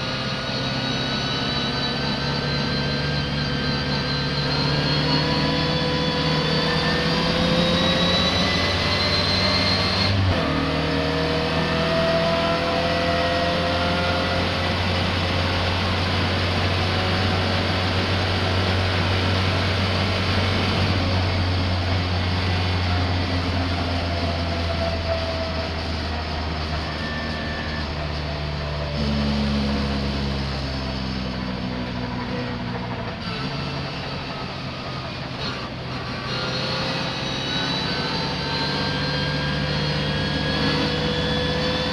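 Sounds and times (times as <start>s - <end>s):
racing car engine accelerating: 0.0s - 41.9s.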